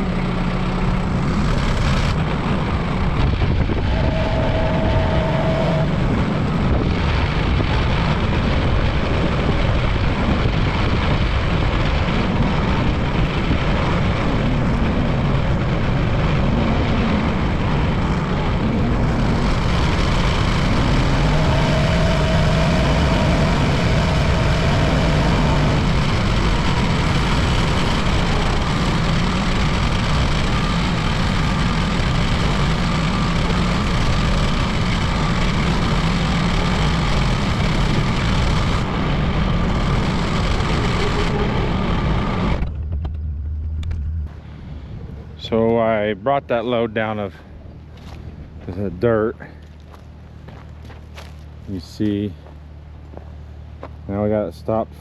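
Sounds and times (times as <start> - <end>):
faint whine: 0.0 - 55.0
tractor engine running: 0.0 - 55.0.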